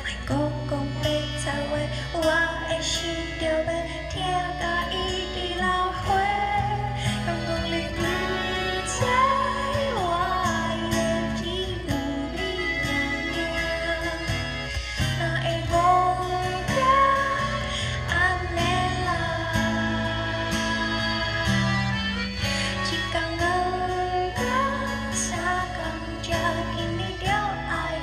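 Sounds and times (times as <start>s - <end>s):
acoustic guitar: 0.0s - 28.0s
keyboard: 0.0s - 28.0s
woman singing: 0.0s - 28.0s.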